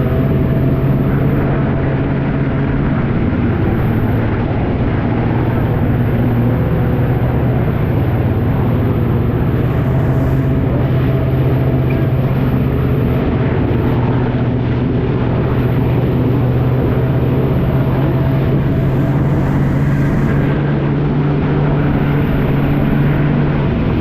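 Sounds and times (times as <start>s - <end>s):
jet ski engine droning: 0.0s - 24.0s
rushing water noise: 0.0s - 24.0s.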